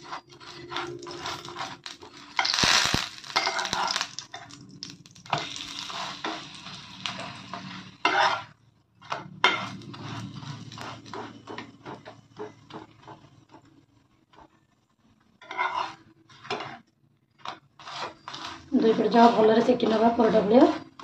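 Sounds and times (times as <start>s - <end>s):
spatula scraping frying pan: 0.0s - 4.6s, 5.3s - 21.0s.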